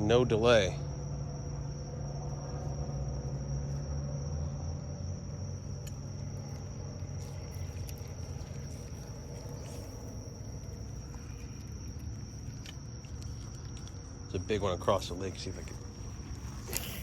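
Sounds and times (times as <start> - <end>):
crickets trilling: 0.0 - 17.0
low steady rumble: 0.0 - 17.0.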